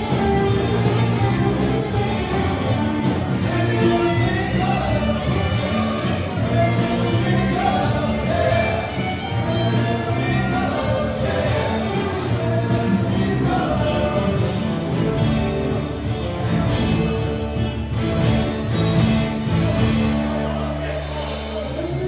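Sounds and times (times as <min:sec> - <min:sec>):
person singing: 0:00.0 - 0:18.0
band playing a song: 0:00.0 - 0:22.0
steady drum beat: 0:00.0 - 0:22.0.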